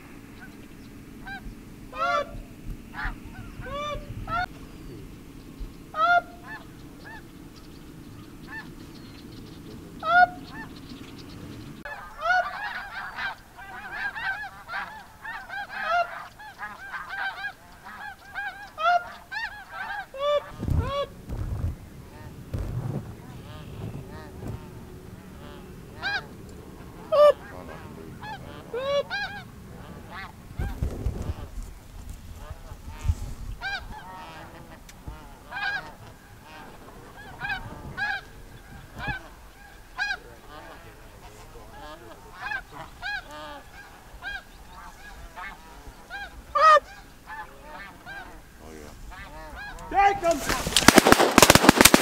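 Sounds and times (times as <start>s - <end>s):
geese honking: 0.0s - 52.0s.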